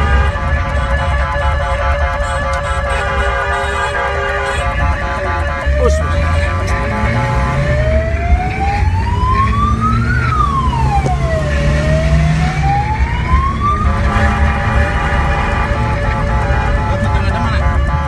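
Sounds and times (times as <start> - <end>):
engine rumble: 0.0 - 18.0
fire truck siren wailing: 0.0 - 18.0.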